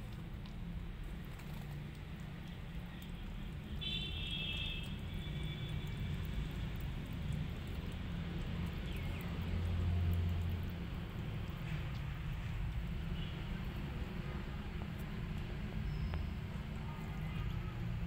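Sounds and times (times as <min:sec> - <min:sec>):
low outdoor background rumble: 0:00.0 - 0:18.0.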